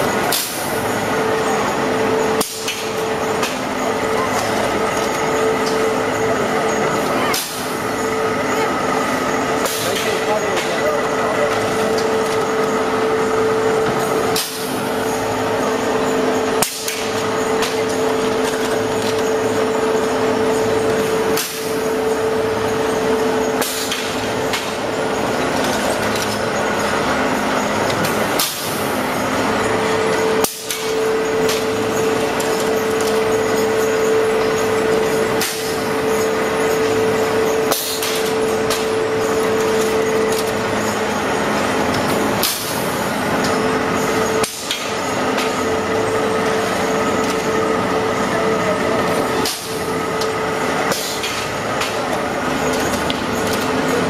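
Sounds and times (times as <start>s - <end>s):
machine din with hum: 0.0s - 54.0s.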